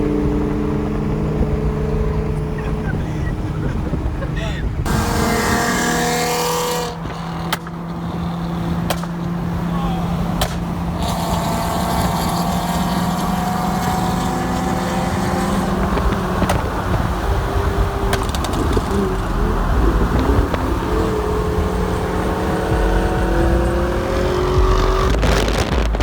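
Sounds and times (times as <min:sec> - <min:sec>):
car engine drone: 0:00.0 - 0:26.0
road noise: 0:00.0 - 0:26.0.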